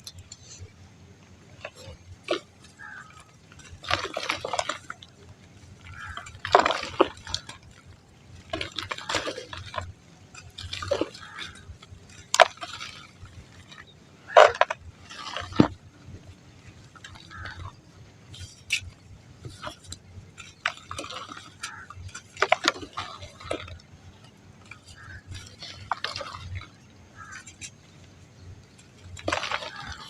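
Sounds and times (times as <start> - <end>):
dry mud crumbling: 1.2 - 30.0.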